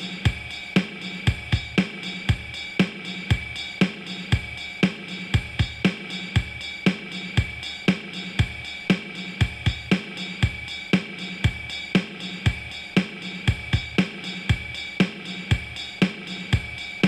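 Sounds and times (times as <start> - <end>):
keyboard drum beat: 0.0 - 17.0.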